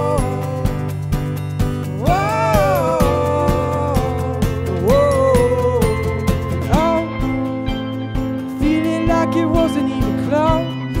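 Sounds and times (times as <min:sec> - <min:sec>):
steady beat: 0:00.0 - 0:10.7.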